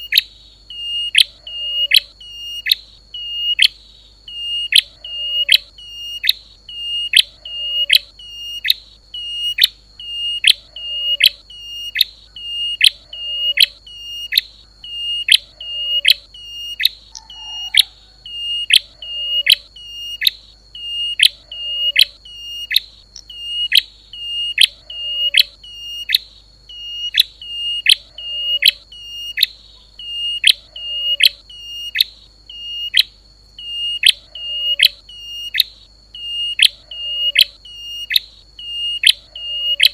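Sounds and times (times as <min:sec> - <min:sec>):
songbird whistled call: 0:00.0 - 0:39.9.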